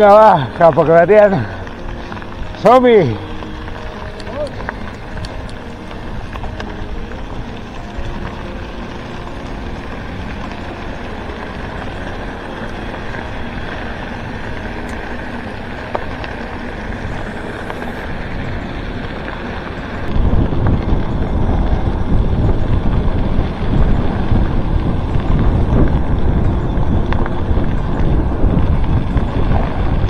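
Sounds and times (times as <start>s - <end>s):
bike tyres rolling on gravel: 0.0s - 30.0s
wind buffeting microphone: 0.0s - 30.0s.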